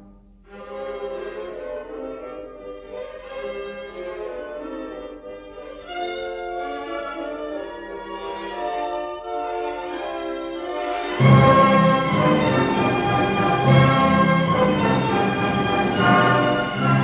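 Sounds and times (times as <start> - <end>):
orchestral music with bowed strings: 0.0 - 17.0.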